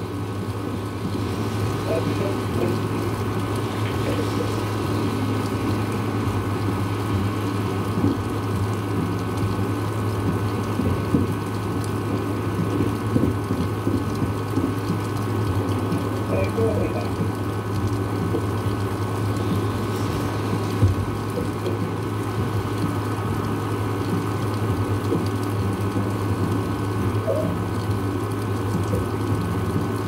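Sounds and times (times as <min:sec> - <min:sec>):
low hum: 0:00.0 - 0:30.0
steady rain: 0:00.0 - 0:30.0.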